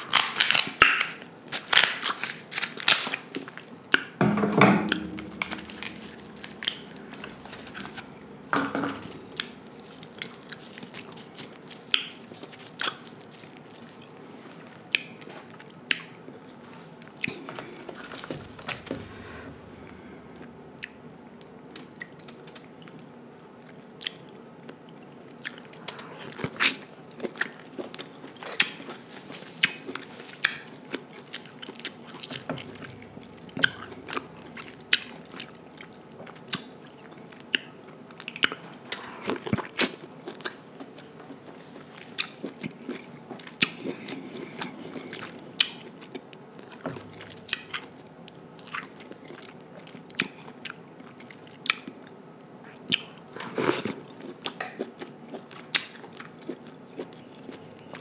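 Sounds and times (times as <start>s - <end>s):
close chewing and biting: 0.0s - 4.2s, 4.9s - 8.4s, 9.1s - 58.0s.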